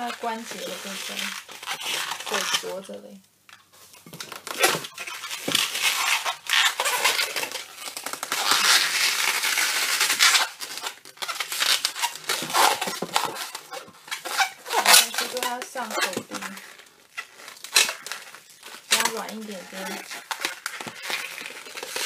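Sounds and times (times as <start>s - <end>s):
rubbery balloon squeaks: 0.0s - 22.0s.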